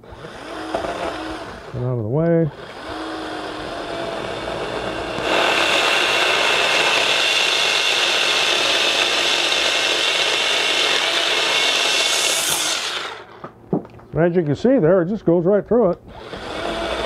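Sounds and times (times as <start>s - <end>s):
electric chainsaw cutting wood: 0.0s - 1.8s, 2.5s - 13.5s, 16.1s - 17.0s.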